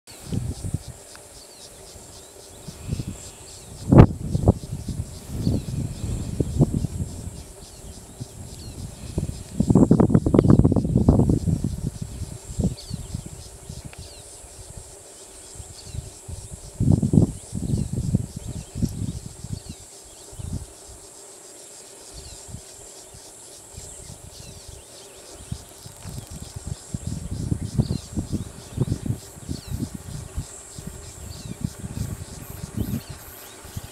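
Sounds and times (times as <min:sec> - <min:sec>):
insects chirping: 0:00.1 - 0:33.9.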